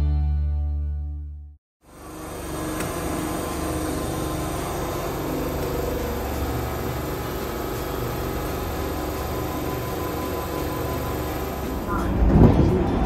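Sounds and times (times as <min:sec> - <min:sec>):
stationary electric train humming: 0:01.8 - 0:13.0.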